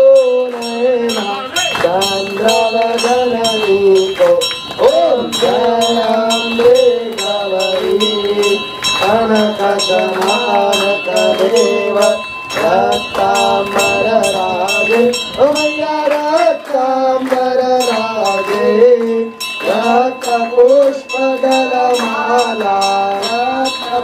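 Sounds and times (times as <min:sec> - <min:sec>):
jingling percussion beat: 0:00.0 - 0:24.0.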